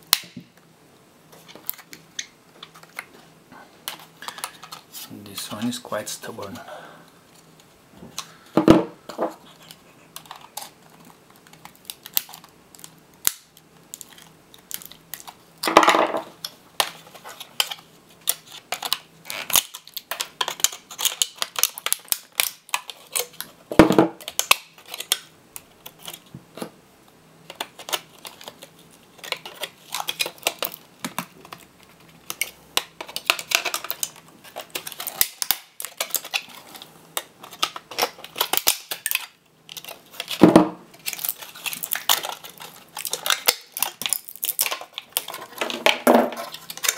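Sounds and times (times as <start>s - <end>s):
plastic cracking: 7.4s - 26.8s, 27.4s - 46.9s.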